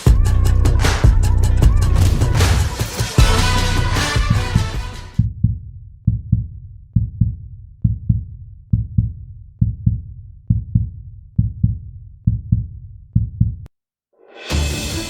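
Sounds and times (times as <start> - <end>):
heartbeat thumps: 0.1 - 13.7.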